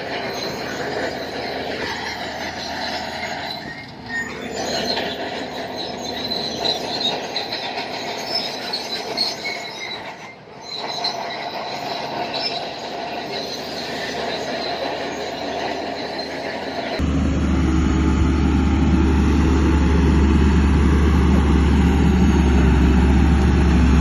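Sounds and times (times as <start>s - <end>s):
crawler tracks squealing and clanking: 0.0s - 17.0s, 17.8s - 24.0s.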